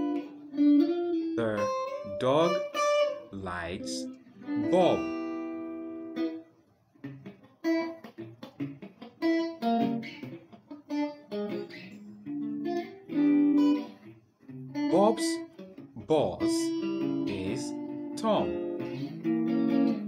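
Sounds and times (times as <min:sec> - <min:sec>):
plucked guitar melody: 0:00.0 - 0:20.0.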